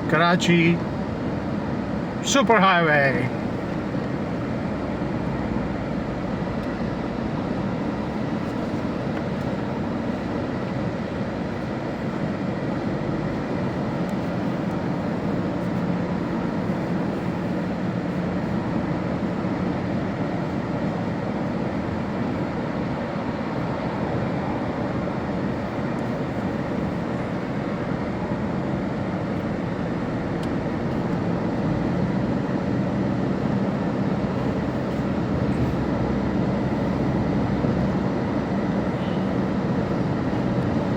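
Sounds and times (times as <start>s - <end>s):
car engine and tyre road noise: 0.0s - 40.9s.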